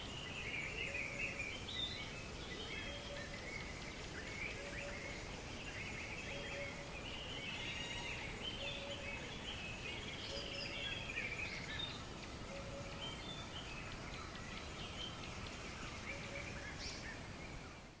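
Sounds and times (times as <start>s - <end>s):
birds singing and chirping: 0.0s - 18.0s.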